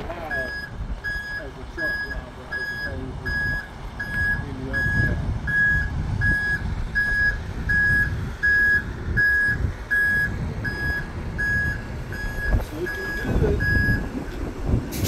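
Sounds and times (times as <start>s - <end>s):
truck backup alarm beeping: 0.0s - 15.0s
truck engine rumble: 0.0s - 15.0s.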